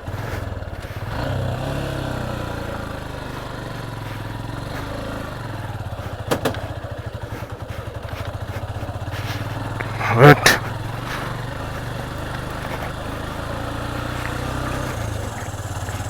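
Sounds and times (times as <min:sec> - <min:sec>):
motorcycle engine at low revs: 0:00.0 - 0:16.0.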